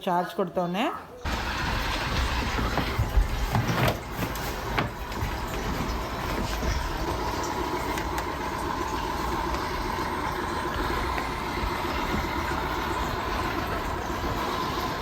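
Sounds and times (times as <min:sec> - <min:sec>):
robot vacuum cleaner whirring: 0:01.2 - 0:15.0.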